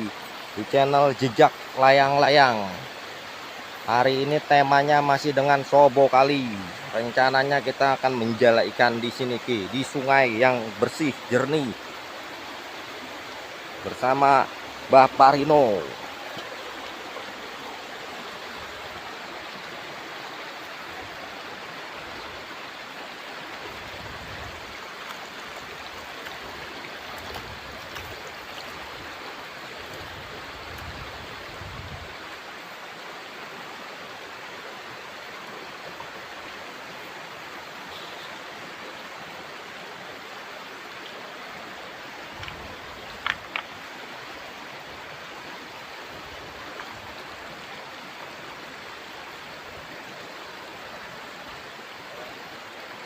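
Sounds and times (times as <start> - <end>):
shallow river flowing: 0.0 - 53.0.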